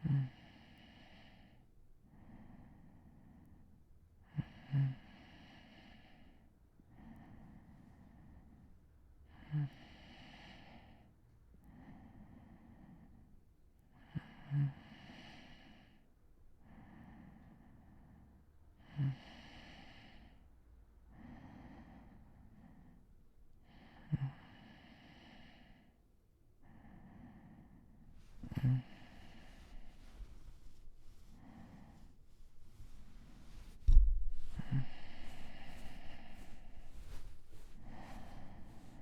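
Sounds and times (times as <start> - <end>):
man breathing in sleep: 0.0 - 8.7, 9.3 - 13.3, 14.0 - 20.5, 21.1 - 26.0, 26.6 - 39.0.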